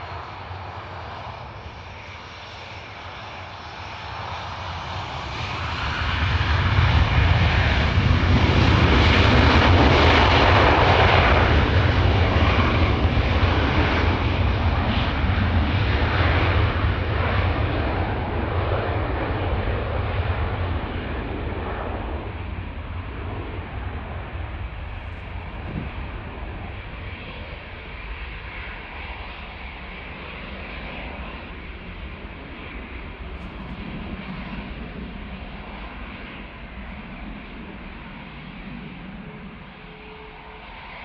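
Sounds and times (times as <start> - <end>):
jet engines rumbling at takeoff: 0.0 - 41.0.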